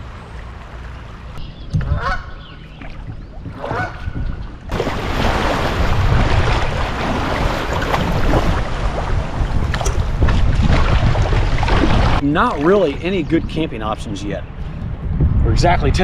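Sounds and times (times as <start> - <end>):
wind buffeting microphone: 1.5 - 16.0.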